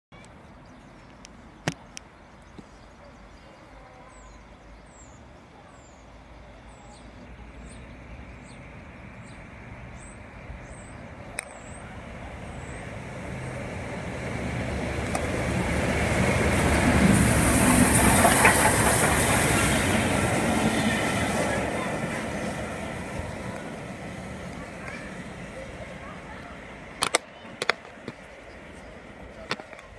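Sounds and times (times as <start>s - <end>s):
train passing at speed: 3.4s - 29.9s.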